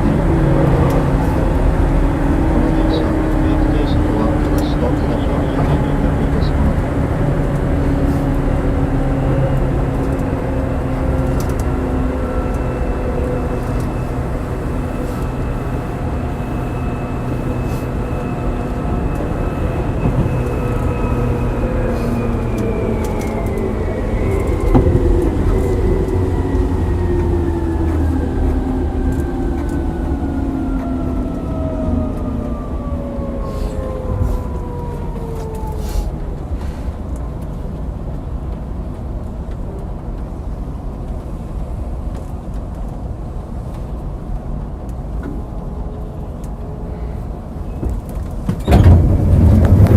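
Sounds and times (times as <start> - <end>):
electric train rumbling: 0.0 - 49.9
train drive whining: 0.0 - 49.9.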